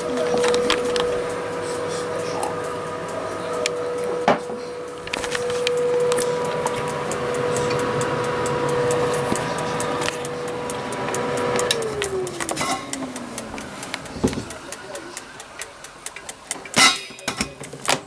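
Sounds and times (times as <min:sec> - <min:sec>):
oven fan motor humming: 0:00.0 - 0:18.0.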